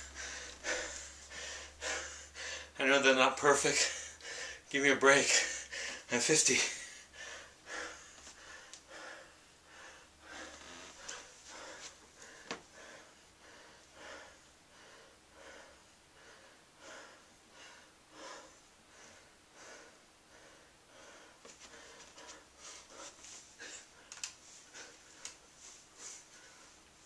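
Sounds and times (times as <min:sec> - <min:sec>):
man breathing hard: 0:00.0 - 0:02.8, 0:03.8 - 0:04.7, 0:05.3 - 0:26.8.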